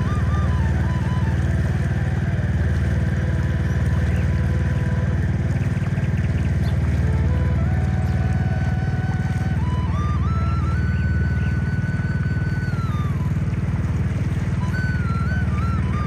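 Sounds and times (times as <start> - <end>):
boat engine running: 0.0 - 16.0
faint melody: 0.0 - 16.0.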